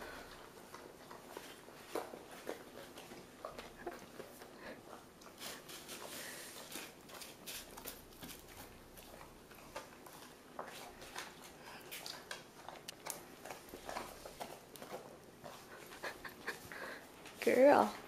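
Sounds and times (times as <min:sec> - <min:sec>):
dog chewing food: 0:00.0 - 0:18.0.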